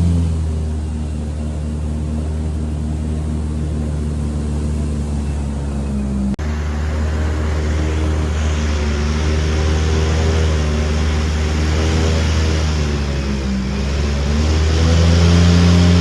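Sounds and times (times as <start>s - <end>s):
airboat engine and propeller drone: 0.0s - 16.0s.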